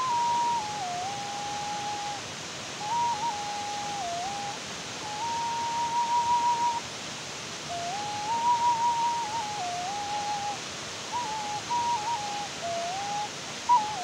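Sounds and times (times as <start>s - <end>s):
whistle-like slow melody: 0.0s - 2.2s, 2.8s - 6.9s, 7.6s - 14.0s
steady rushing hiss: 0.0s - 14.0s.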